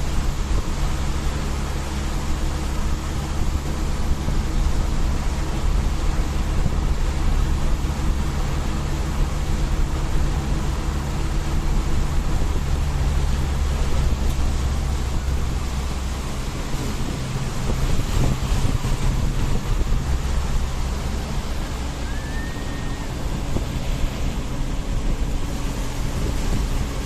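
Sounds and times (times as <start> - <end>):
tyres hissing on wet road: 0.0 - 24.7
vehicle engine hum: 0.0 - 27.0.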